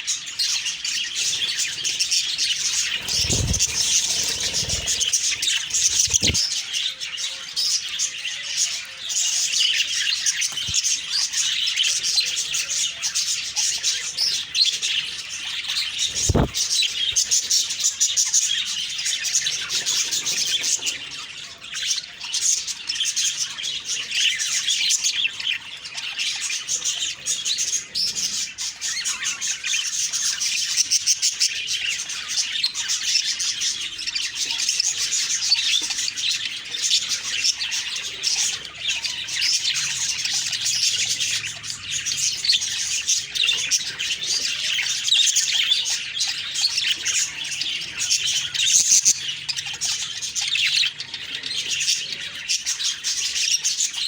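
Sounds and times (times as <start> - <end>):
budgerigars chirping and chattering: 0.0 - 54.0.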